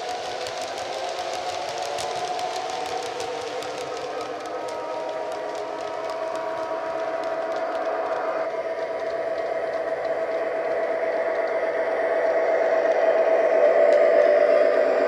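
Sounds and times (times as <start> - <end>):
model train wheels on track: 0.0 - 15.0.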